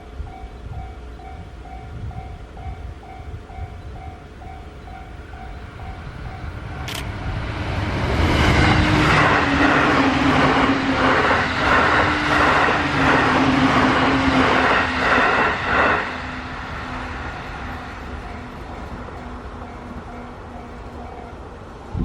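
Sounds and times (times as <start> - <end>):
level crossing warning signal: 0.0 - 7.4, 9.2 - 21.8
train passing at speed: 0.0 - 22.0.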